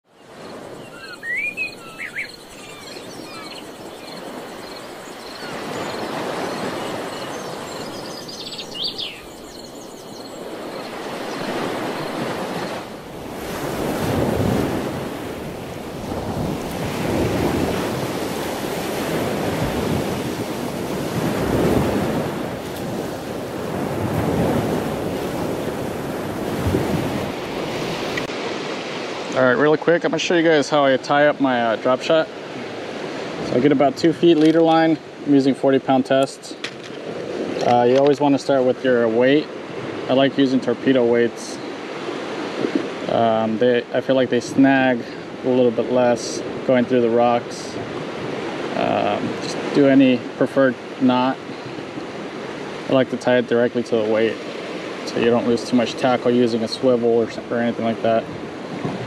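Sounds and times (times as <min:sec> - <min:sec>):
ocean waves washing on shore: 0:00.0 - 0:59.0.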